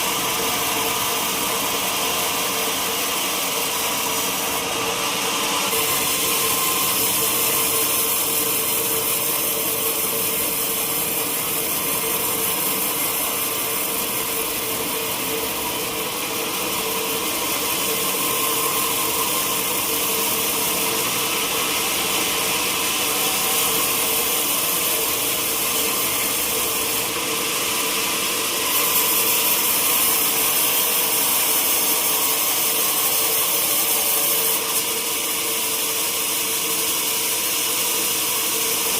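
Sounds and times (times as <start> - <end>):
sawmill saw cutting wood: 0.0 - 38.9.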